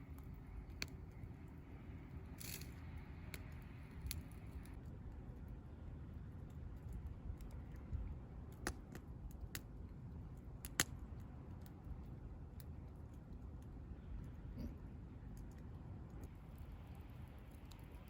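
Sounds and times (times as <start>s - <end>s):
campfire crackling: 0.0s - 14.3s, 15.2s - 18.0s
low steady rumble: 0.0s - 18.0s.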